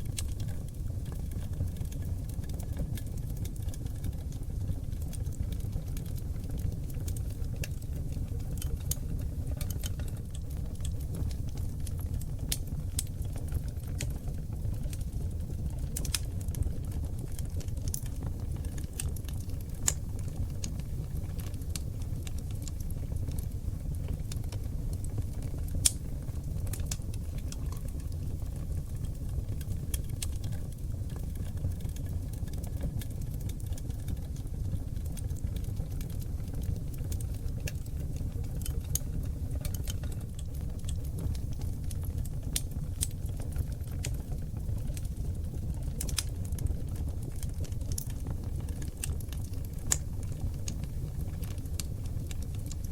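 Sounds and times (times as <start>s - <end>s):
low rush of flame: 0.0s - 52.9s
wood crackling and popping: 0.0s - 52.9s.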